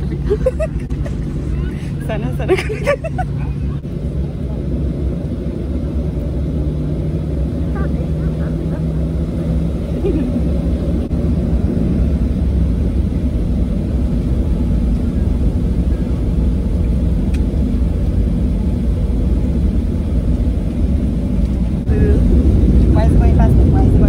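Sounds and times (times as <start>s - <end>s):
low rumble of aircraft engines: 0.0s - 24.0s.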